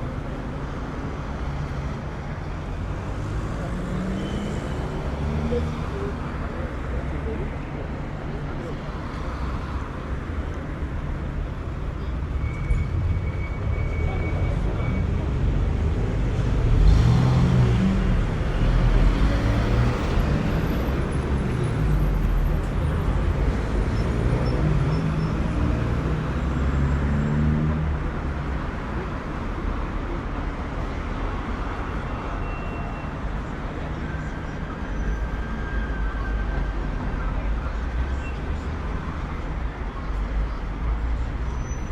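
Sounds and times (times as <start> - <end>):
cars passing by: 0.0 - 41.9.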